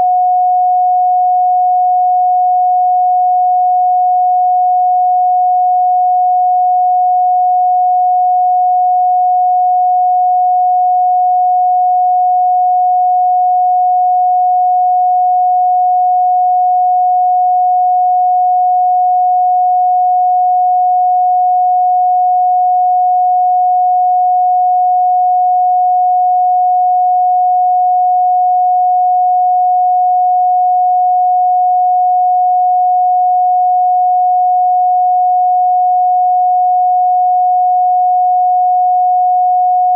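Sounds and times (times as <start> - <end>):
steady sine tone: 0.0 - 39.9.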